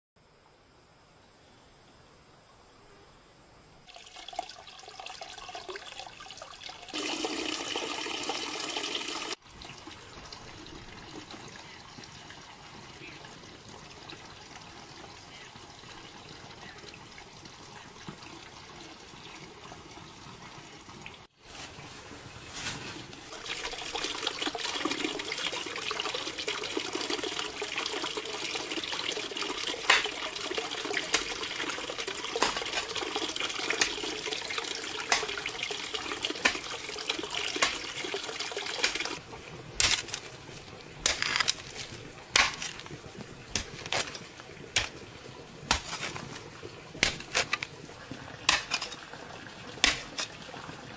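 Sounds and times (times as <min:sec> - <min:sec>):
water running: 0:03.9 - 0:21.3, 0:23.0 - 0:50.9.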